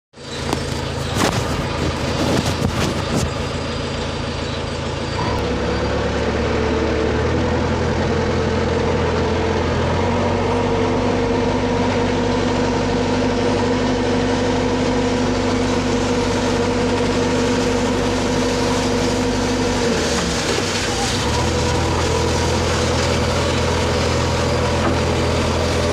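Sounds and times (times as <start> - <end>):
diesel engine running: 0.1 - 25.9.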